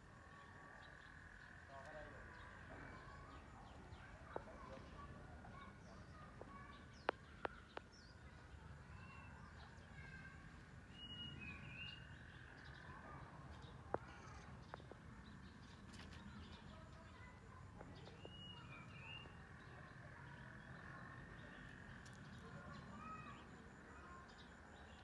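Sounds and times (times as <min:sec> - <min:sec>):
faint outdoor ambience: 0:00.0 - 0:25.0.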